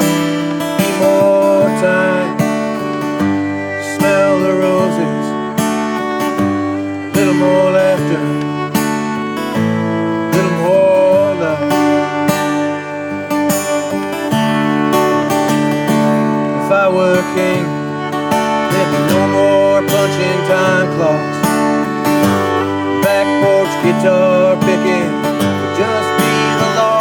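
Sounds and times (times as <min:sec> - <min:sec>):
acoustic guitar strumming: 0:00.0 - 0:27.0
fiddle sliding melody: 0:00.0 - 0:27.0.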